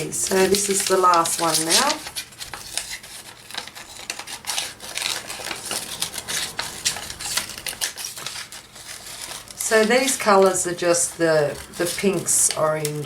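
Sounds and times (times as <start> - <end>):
scissors snipping paper: 0.0 - 13.0.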